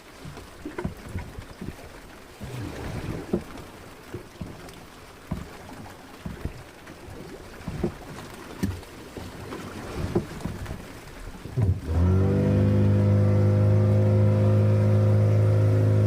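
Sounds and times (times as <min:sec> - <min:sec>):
water slapping against boat hull: 0:00.0 - 0:16.0.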